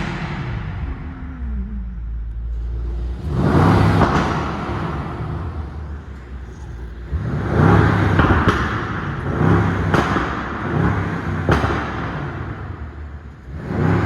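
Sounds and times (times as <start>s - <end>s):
car exhaust revving: 0.0s - 14.0s
exhaust cracks: 0.0s - 14.0s.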